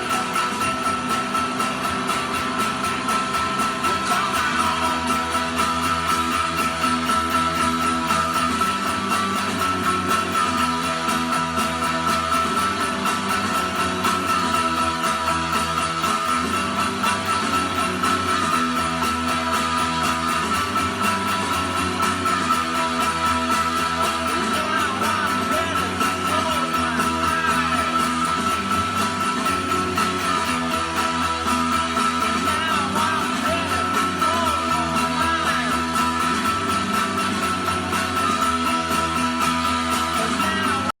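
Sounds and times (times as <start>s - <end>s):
held high tone: 0.0s - 41.0s
rock music with electric guitar: 0.0s - 41.0s
voice-like line: 0.0s - 41.0s.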